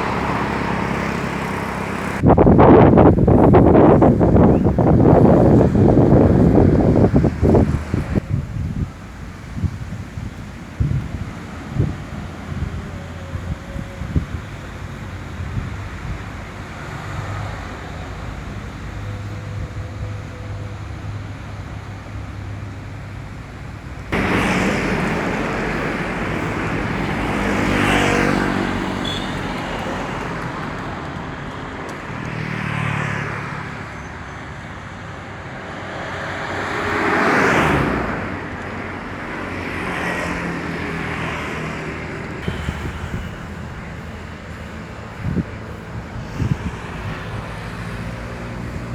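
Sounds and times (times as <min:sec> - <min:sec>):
outdoor noise: 0:00.0 - 0:48.9
road vehicles passing by: 0:00.0 - 0:48.9.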